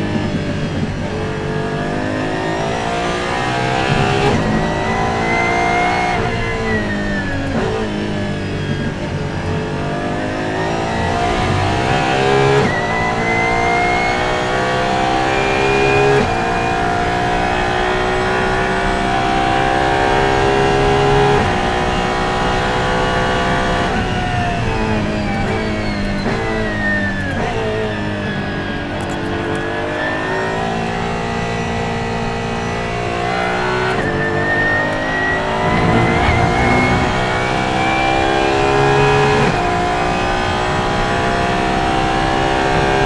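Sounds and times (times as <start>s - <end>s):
car engine revving at full throttle: 0.0s - 43.0s.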